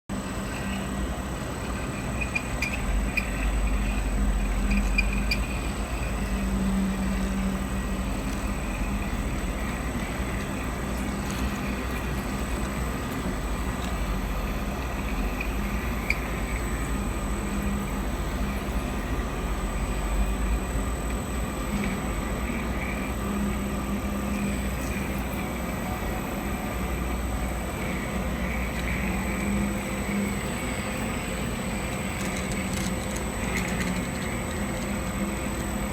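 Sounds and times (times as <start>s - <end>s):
machine tool droning: 0.1s - 35.9s.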